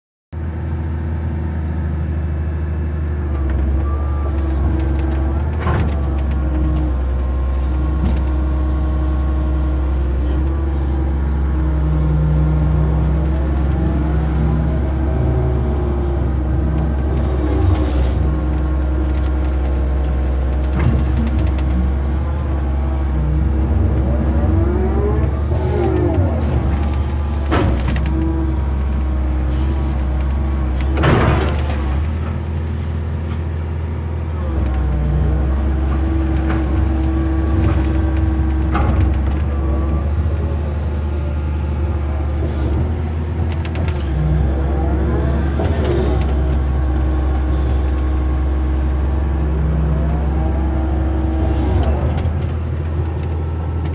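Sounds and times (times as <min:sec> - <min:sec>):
vehicle engine running: 0:03.6 - 0:53.9.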